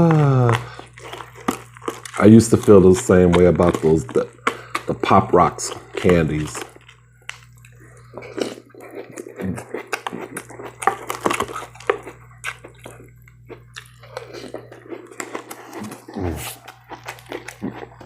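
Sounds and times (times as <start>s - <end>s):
chewing crunchy cereal: 0.0s - 18.0s
low steady hum: 0.0s - 18.0s.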